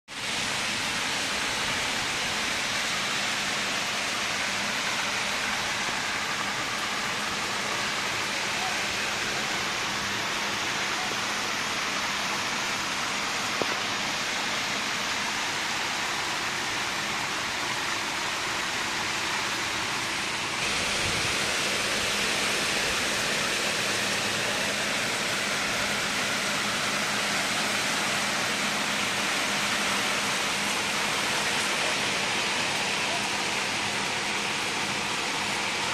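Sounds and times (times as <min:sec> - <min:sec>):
heavy rain falling: 0:00.1 - 0:35.9.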